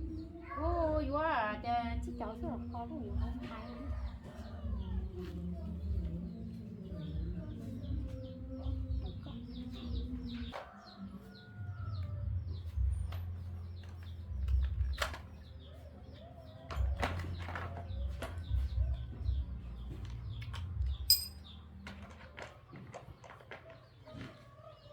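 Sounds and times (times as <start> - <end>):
chickens clucking and chirping: 2.0 - 24.9.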